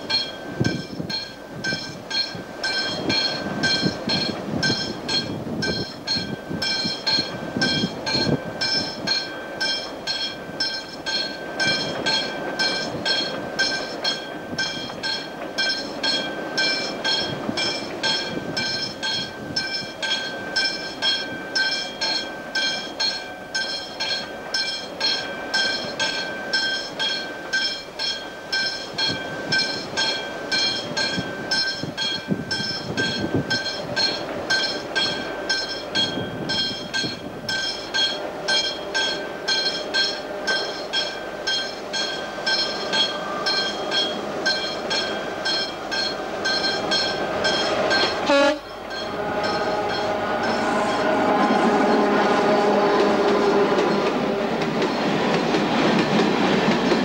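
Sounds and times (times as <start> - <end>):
train wheels squealing: 0.0 - 56.3
rumble of train wagons: 0.0 - 57.0.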